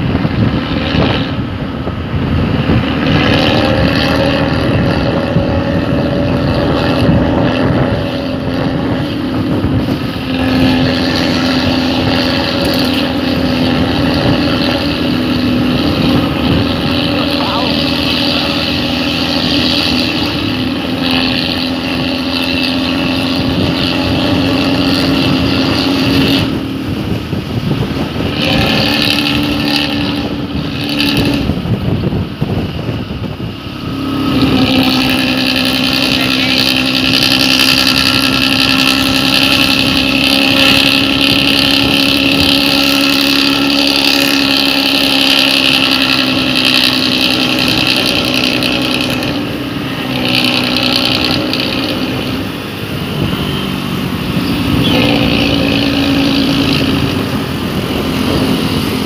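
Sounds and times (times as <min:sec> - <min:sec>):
loud bus exhaust drone: 0:00.0 - 0:59.0.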